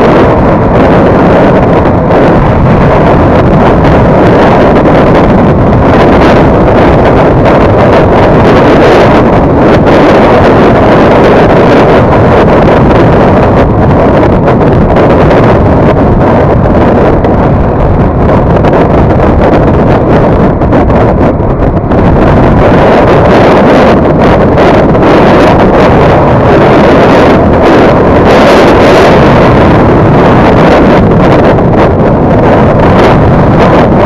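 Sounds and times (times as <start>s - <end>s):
wind rushing on microphone: 0.0s - 34.0s.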